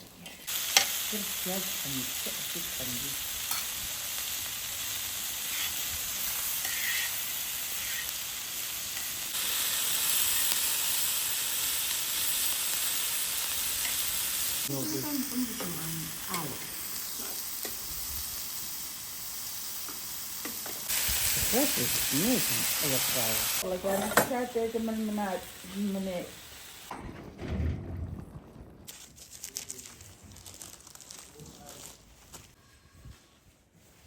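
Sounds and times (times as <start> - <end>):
food sizzling in hot fat: 0.2 - 26.9, 28.8 - 32.0.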